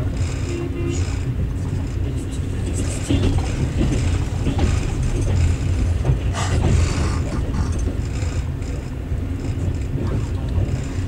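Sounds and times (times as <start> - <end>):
carriage rattling and creaking: 0.0 - 11.0
train wheels rumbling: 0.0 - 11.0.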